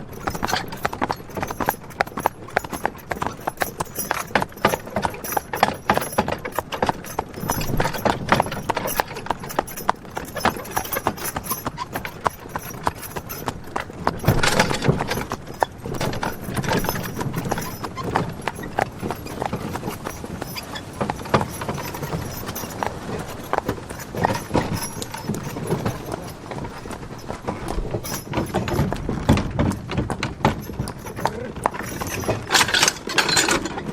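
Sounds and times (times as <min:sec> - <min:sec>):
hooves clip-clopping: 0:00.0 - 0:33.9
wagon rattling: 0:00.0 - 0:33.9.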